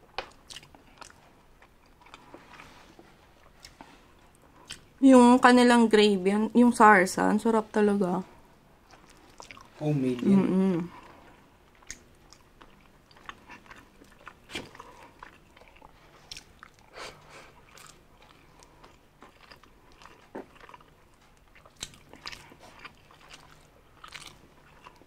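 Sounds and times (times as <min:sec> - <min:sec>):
close-up chewing meat: 0:00.3 - 0:05.0, 0:08.8 - 0:10.3, 0:11.0 - 0:25.0.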